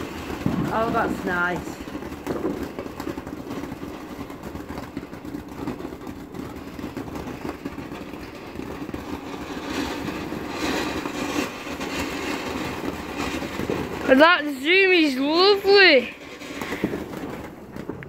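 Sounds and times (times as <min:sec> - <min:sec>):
firework fountain hissing and crackling: 0:00.0 - 0:18.0.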